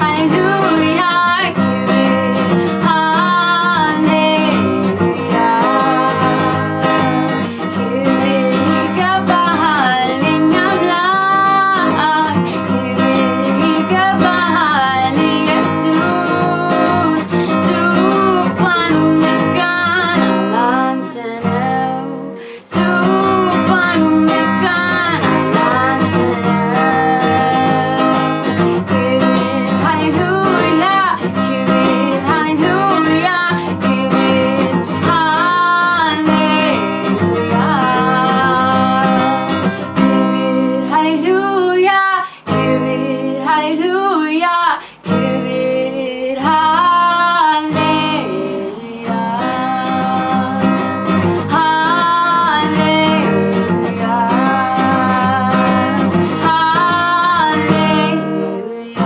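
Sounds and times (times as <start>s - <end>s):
strummed acoustic guitar: 0.0s - 59.0s
woman singing: 0.0s - 59.0s.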